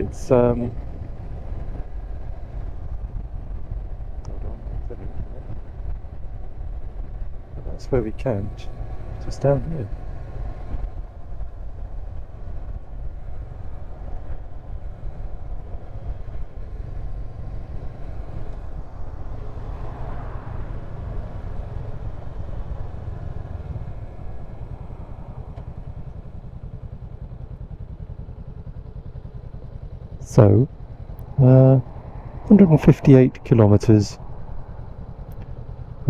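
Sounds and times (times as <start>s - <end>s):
motorcycle engine drone: 0.0s - 36.0s.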